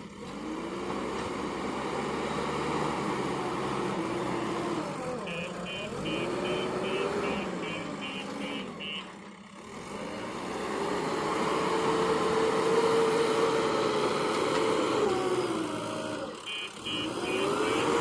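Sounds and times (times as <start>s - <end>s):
backhoe loader engine running: 0.0s - 18.0s.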